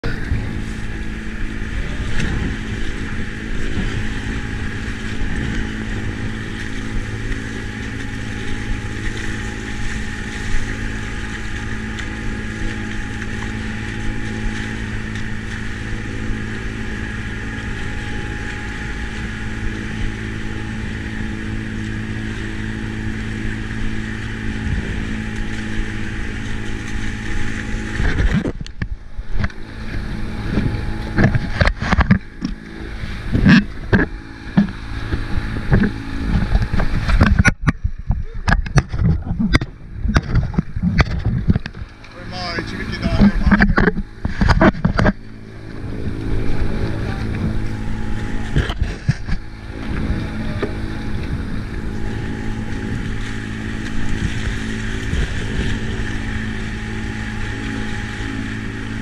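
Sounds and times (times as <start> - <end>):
diesel engine running: 0.0 - 59.0
water rushing and splashing: 0.0 - 59.0.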